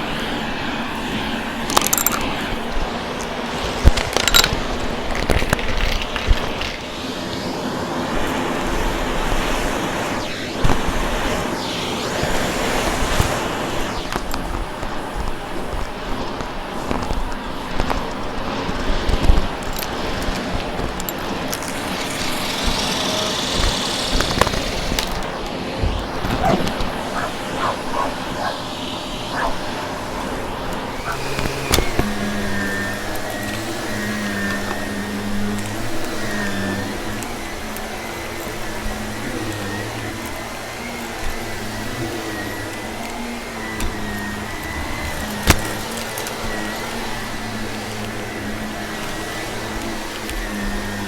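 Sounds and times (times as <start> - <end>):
vacuum cleaner motor humming: 0.0 - 51.0
debris rushing and crackling: 1.3 - 7.8, 12.9 - 51.0.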